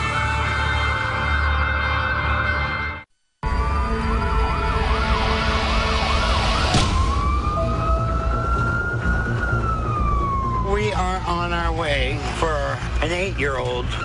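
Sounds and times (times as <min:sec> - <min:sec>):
ambulance siren: 0:00.0 - 0:14.0.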